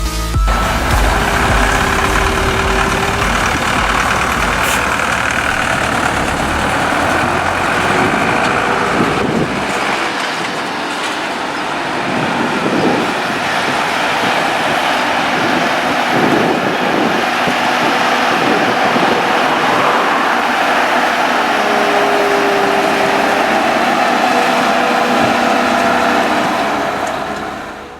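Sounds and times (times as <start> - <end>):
farm machinery engine running: 0.3 - 27.9.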